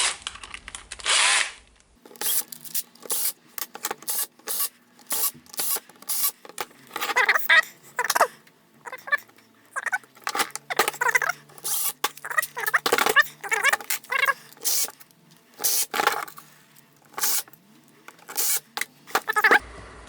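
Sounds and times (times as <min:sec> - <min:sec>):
screws squeaking into plastic: 0:02.0 - 0:19.6.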